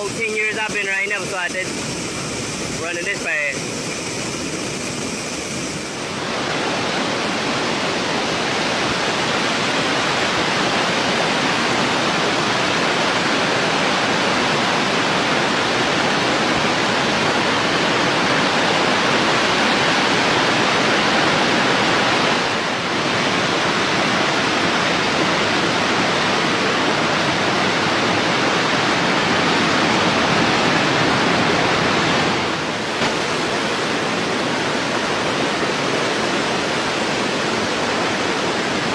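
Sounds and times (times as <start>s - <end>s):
water rushing through spillway: 0.0s - 38.9s.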